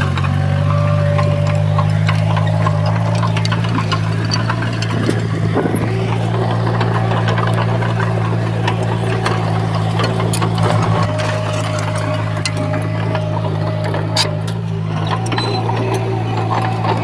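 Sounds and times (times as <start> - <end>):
diesel engine of heavy machinery: 0.0 - 17.0
metallic clicks and clanks: 0.0 - 17.0.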